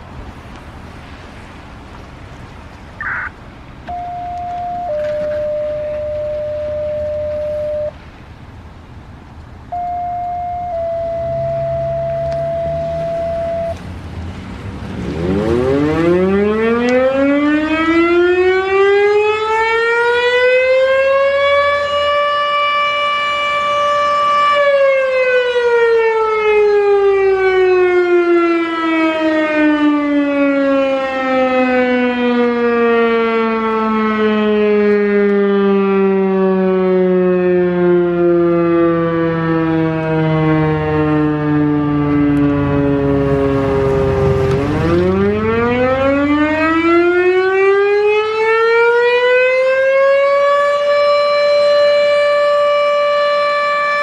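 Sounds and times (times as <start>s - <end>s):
fire siren winding: 3.9s - 8.0s, 9.7s - 13.8s, 15.2s - 54.0s.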